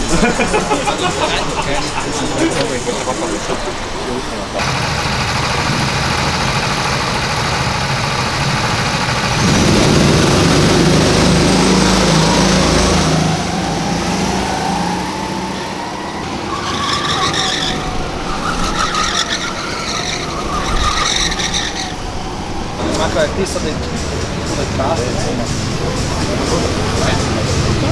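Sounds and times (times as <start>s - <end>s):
go-karts engines: 0.0s - 27.9s.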